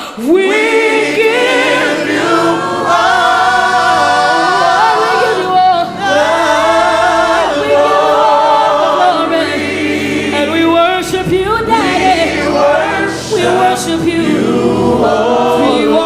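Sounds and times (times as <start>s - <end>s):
congregation singing a cappella: 0.0s - 16.0s.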